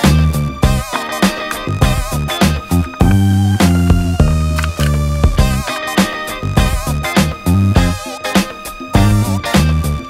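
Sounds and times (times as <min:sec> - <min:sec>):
background music with bass and drums: 0:00.0 - 0:10.0.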